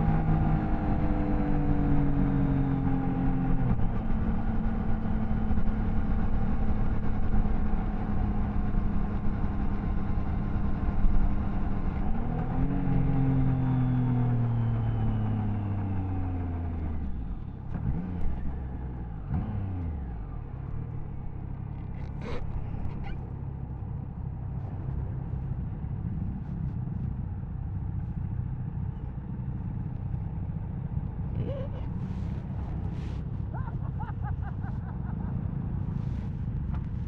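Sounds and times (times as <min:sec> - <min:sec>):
motorcycle engine and exhaust: 0:00.0 - 0:37.0.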